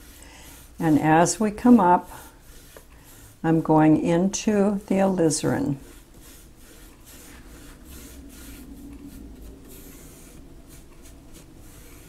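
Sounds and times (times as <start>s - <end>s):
paintbrush scrubbing canvas: 0.0s - 3.7s, 5.2s - 12.0s.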